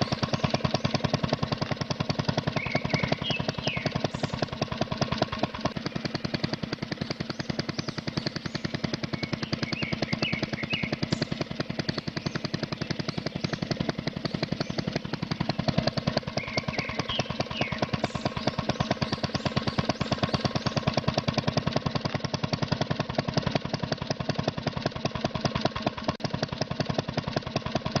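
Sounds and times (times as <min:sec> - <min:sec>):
model engine pump chugging: 0:00.0 - 0:28.0.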